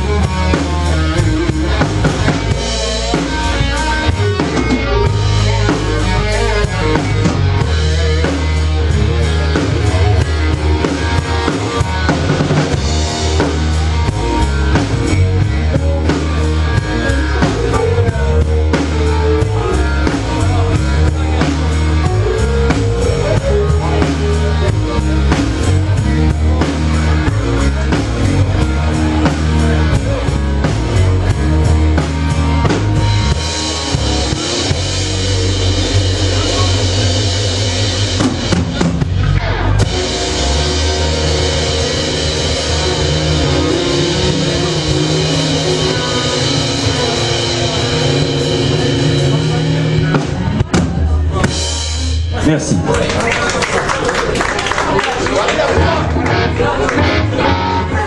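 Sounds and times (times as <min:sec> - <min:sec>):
bass drum and snare: 0:00.0 - 0:52.6
blues-rock band playing: 0:00.0 - 0:58.0.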